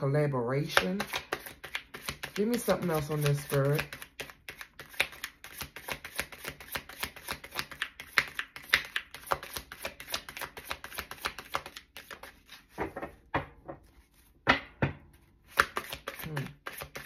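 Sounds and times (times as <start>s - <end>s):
cards being shuffled: 0.8s - 13.2s, 13.8s - 14.4s, 15.2s - 17.0s
cards slapping: 0.8s - 13.2s, 15.4s - 17.0s.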